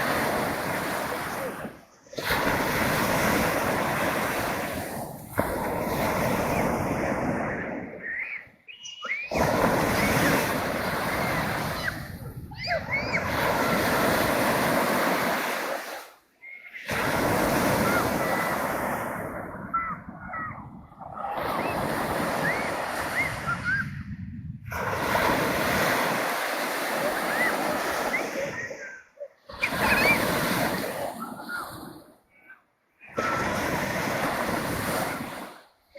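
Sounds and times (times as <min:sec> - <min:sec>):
surf breaking on shore: 0:00.0 - 0:08.4, 0:09.1 - 0:16.2, 0:16.8 - 0:28.9, 0:29.5 - 0:32.1, 0:33.1 - 0:35.8.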